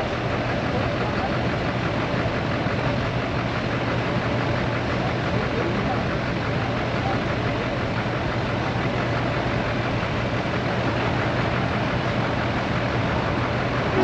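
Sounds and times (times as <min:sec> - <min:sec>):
car engines idling in traffic: 0:00.0 - 0:14.0.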